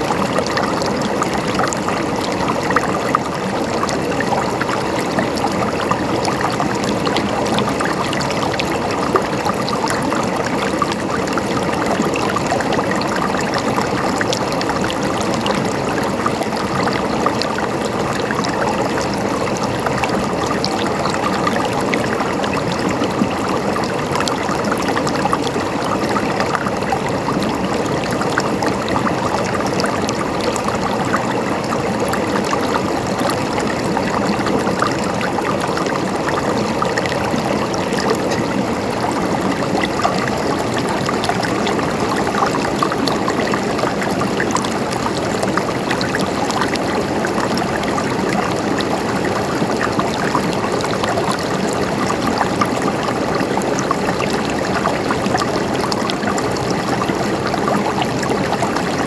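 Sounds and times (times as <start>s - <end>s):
water gurgling: 0.0s - 59.0s.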